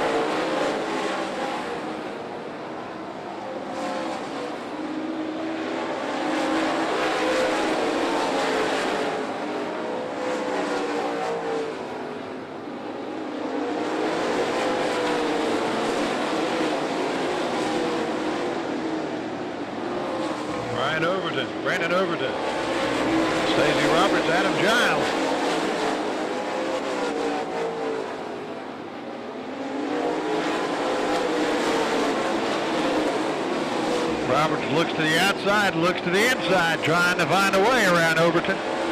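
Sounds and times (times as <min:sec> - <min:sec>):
race car engines passing: 0:00.0 - 0:38.9.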